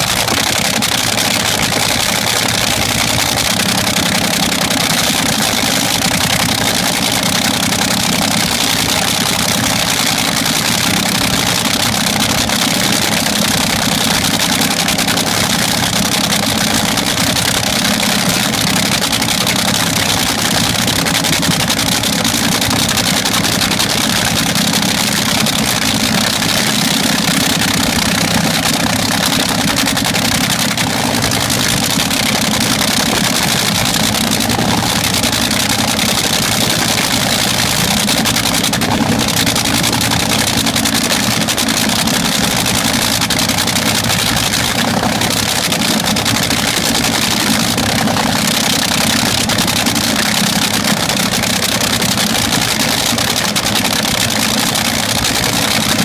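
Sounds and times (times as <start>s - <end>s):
dragster engine cackling at idle: 0.0s - 56.0s.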